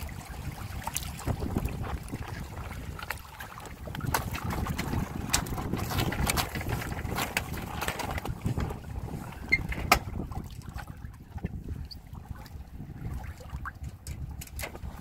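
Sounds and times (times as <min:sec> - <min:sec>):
water slapping against boat hulls: 0:00.0 - 0:15.0
wind rumbling on microphone: 0:00.0 - 0:15.0.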